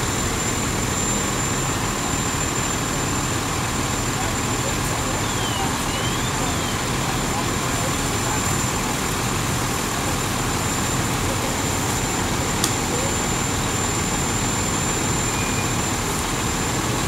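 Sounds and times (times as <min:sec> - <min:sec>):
fire engine running: 0:00.0 - 0:17.0
thin steady high tone: 0:00.0 - 0:17.0.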